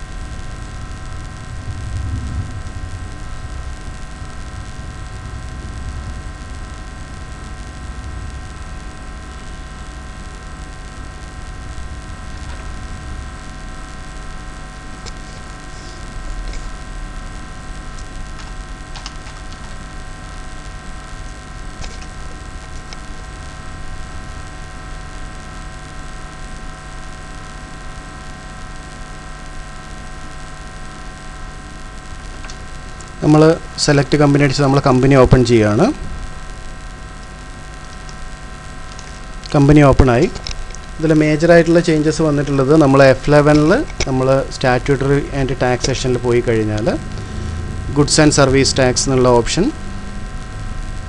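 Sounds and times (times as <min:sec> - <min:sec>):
recording hum and hiss: 0:00.0 - 0:51.0.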